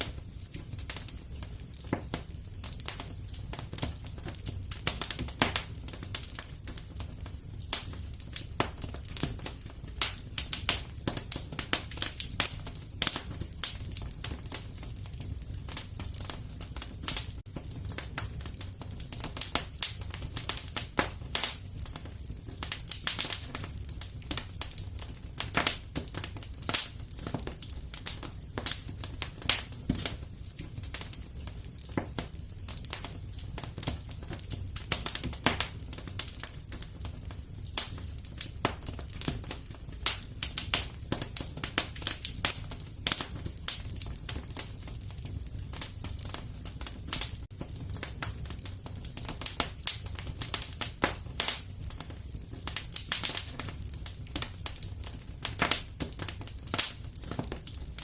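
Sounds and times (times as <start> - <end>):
fire flames rumbling: 0.0 - 58.0
fire popping and snapping: 0.0 - 58.0.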